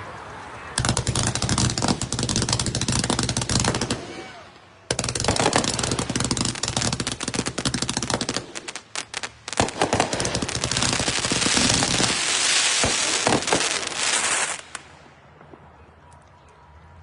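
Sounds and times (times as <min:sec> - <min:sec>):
fireworks cake firing: 0:00.8 - 0:15.0.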